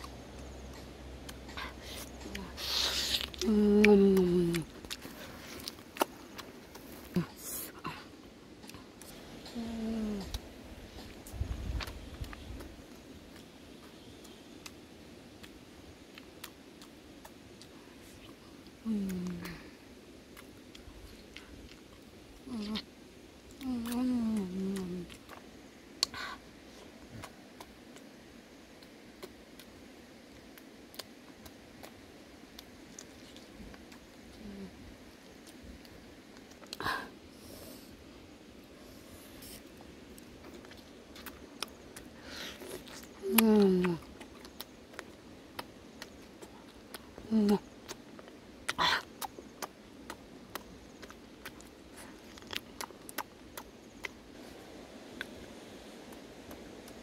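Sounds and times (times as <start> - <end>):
chewing and crunching: 0.0 - 37.9, 38.6 - 57.0
faint steady hiss: 0.0 - 57.0.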